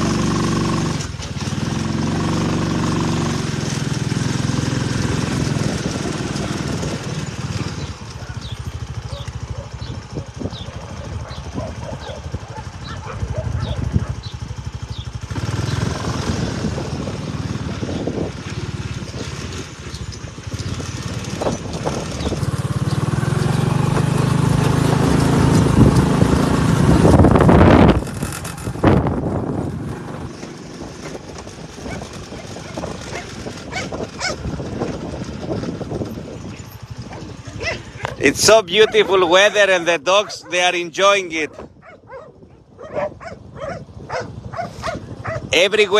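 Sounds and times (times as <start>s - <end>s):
small vehicle engine running: 0.0s - 45.9s.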